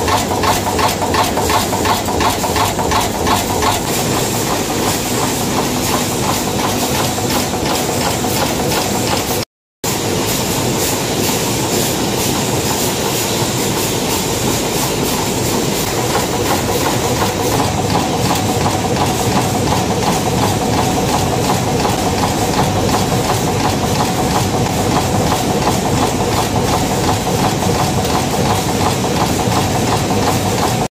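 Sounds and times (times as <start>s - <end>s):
machines clattering with metal strokes: 0.0s - 30.9s.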